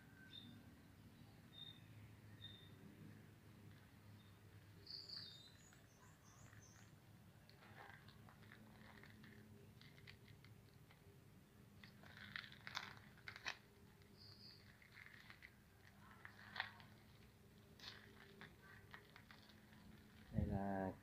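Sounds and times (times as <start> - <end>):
soft crunching and rustling: 3.6 - 21.0.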